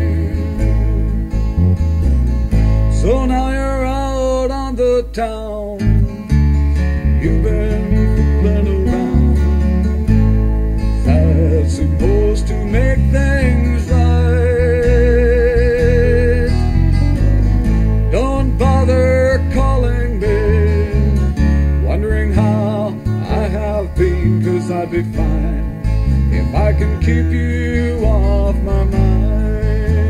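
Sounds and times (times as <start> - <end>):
country song with acoustic guitar: 0.0 - 30.0.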